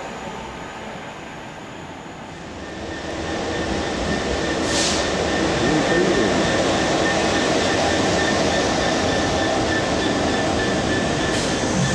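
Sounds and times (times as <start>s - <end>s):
diesel locomotive passing: 0.0s - 11.9s.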